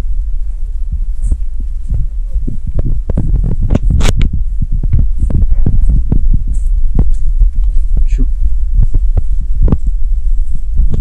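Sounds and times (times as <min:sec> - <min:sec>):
sharp crackle: 0:00.0 - 0:11.0
wind rumble on microphone: 0:00.0 - 0:11.0.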